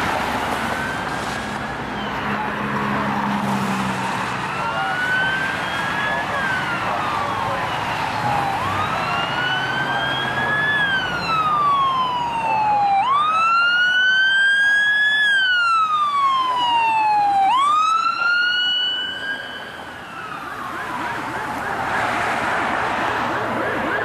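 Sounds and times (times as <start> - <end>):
electronic siren wailing: 4.4 - 24.0.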